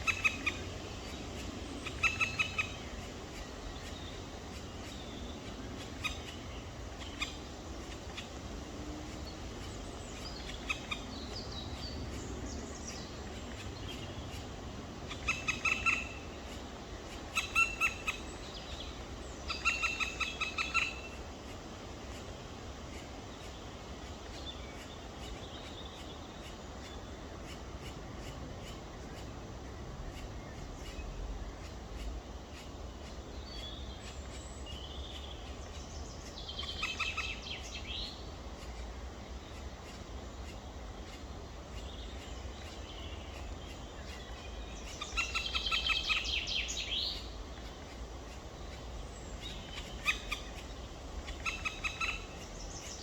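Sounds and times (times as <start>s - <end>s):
woodpecker chicks calling: 0.0s - 53.0s.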